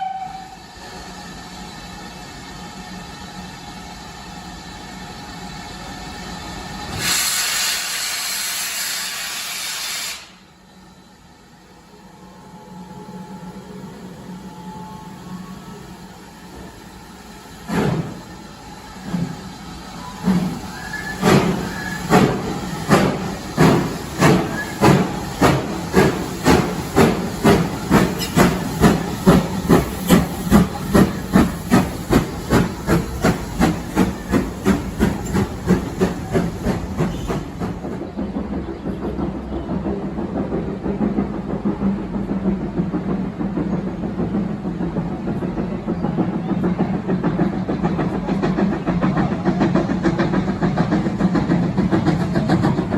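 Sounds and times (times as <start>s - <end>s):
steam locomotive exhaust chuffs: 0.0s - 52.9s
locomotive running rumble: 10.2s - 52.9s.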